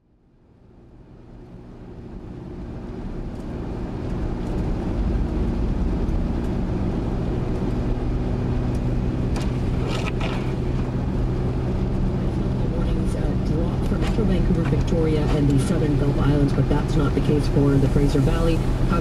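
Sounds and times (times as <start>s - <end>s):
car engine hum and tyre noise: 0.0s - 19.0s.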